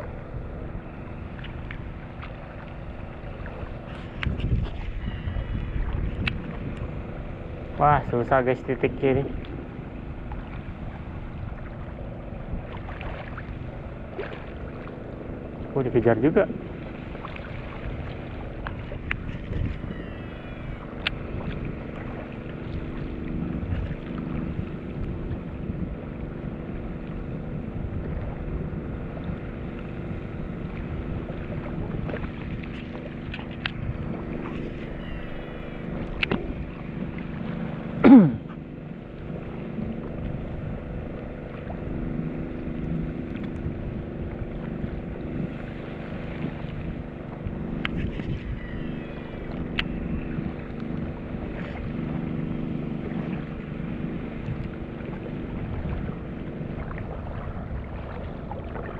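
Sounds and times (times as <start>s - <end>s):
wind on microphone: 0.0s - 14.9s, 15.6s - 58.9s
boat engine running: 0.0s - 58.9s.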